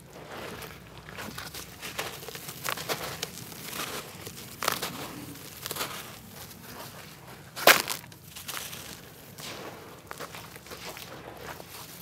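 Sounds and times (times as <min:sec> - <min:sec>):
wet dirt crunching and crumbling: 0:00.0 - 0:12.0.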